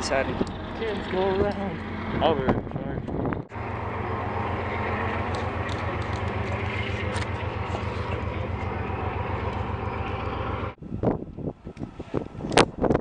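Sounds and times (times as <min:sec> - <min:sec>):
engine humming with fast pulse: 0:00.0 - 0:13.0.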